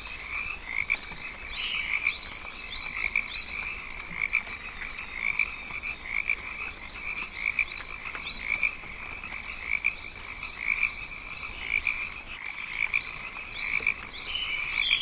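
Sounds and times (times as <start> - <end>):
frogs trilling in chorus: 0.0 - 15.0.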